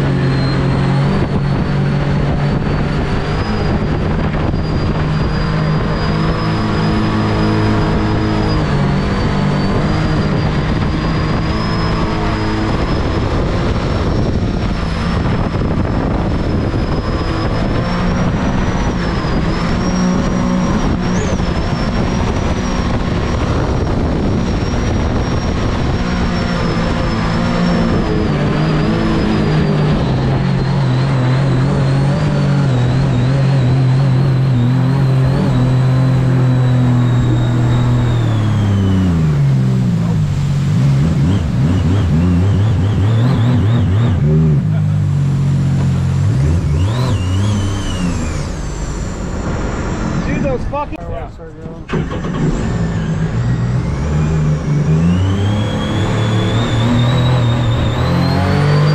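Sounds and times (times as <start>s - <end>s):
jet boat engine running: 0.0s - 58.9s
rushing water noise: 0.4s - 51.2s.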